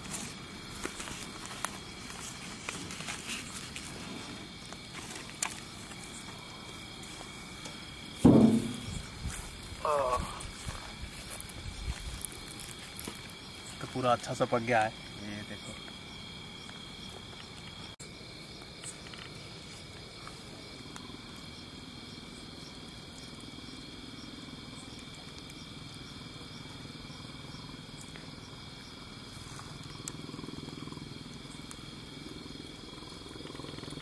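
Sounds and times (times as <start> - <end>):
night insects chirping: 0.0 - 34.0.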